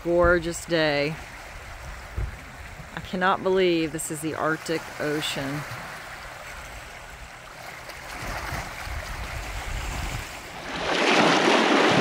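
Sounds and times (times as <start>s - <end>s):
waves lapping on rocky shore: 0.0s - 12.0s.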